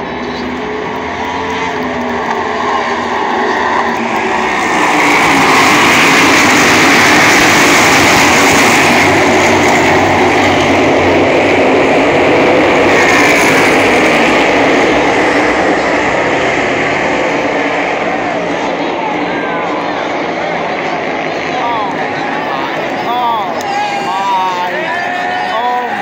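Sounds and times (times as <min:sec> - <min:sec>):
race cars at full throttle: 0:00.0 - 0:26.0.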